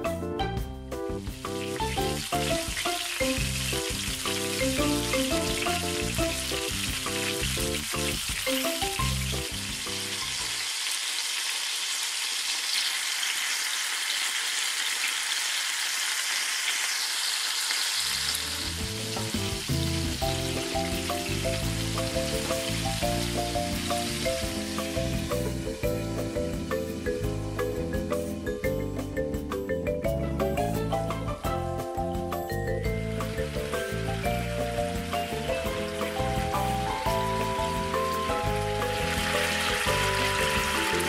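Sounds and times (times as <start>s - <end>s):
light background music: 0.0s - 10.6s, 18.4s - 41.0s
patties sizzling in oil: 1.2s - 28.6s, 33.0s - 41.0s.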